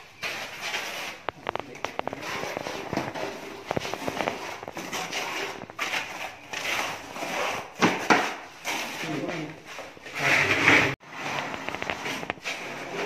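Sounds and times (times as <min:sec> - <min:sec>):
trowel scraping plaster wall: 0:00.0 - 0:13.0.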